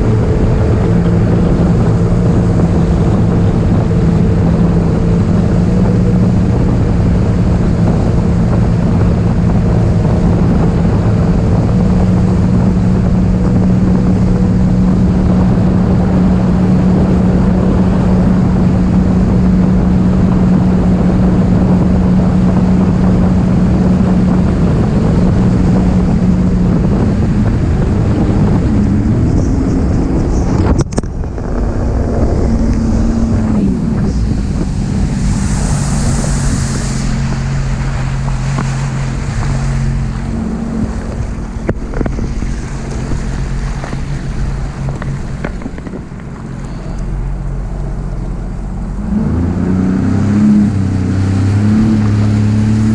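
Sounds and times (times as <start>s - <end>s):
jet ski engine running: 0.0s - 52.9s.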